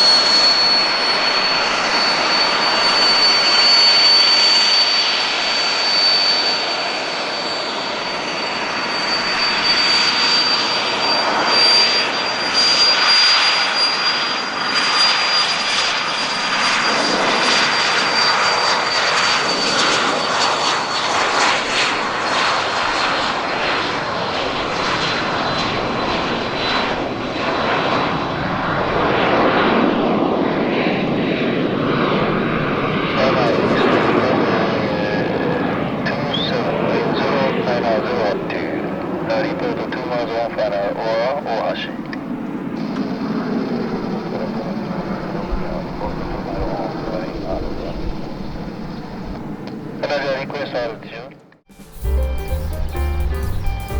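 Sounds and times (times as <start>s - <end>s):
jet engines climbing away: 0.0s - 53.9s.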